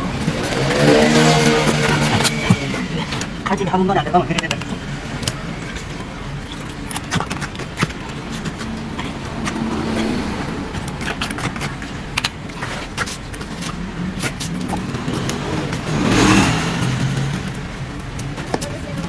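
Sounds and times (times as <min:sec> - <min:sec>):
noisy rush: 0:00.0 - 0:19.0
street-side hum: 0:00.0 - 0:19.0.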